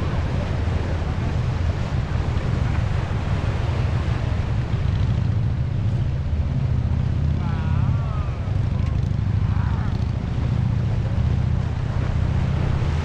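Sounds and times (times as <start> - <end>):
ocean surf breaking on rocks: 0.0 - 13.0
wind buffeting microphone: 0.0 - 13.0.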